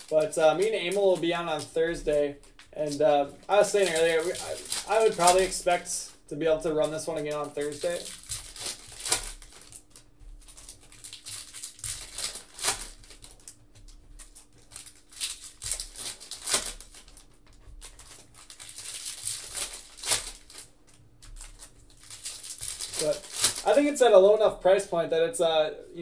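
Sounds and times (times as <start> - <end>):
card pack wrappers crinkling: 0.0 - 24.9.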